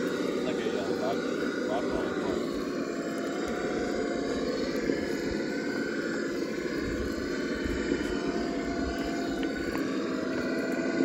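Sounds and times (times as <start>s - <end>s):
electric motor whirring: 0.0s - 11.0s
wheels over loose rocks: 0.0s - 11.0s.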